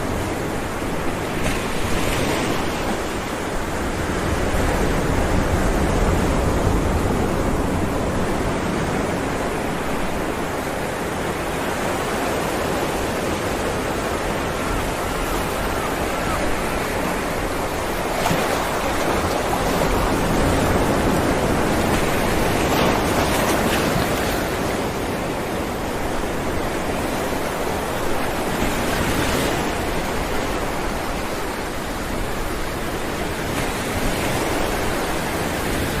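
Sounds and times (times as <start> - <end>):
waves breaking on rocks: 0.0 - 36.0.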